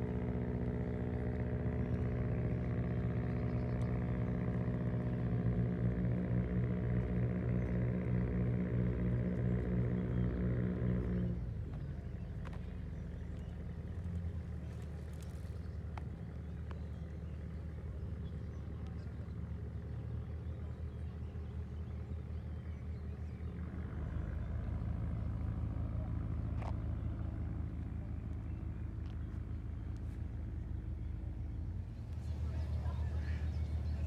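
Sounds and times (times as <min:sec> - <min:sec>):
vehicle engine hum: 0:00.0 - 0:34.0.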